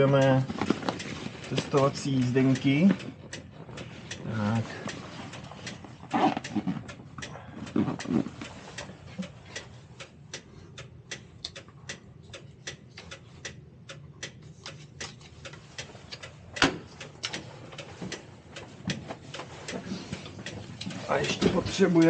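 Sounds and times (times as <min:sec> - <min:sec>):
hazard-light flasher ticking: 0:00.0 - 0:08.1, 0:08.8 - 0:19.4.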